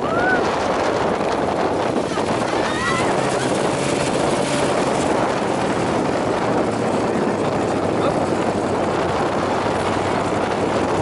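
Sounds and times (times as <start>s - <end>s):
dune buggy engine running: 0.0s - 11.0s
wind rushing: 0.0s - 11.0s.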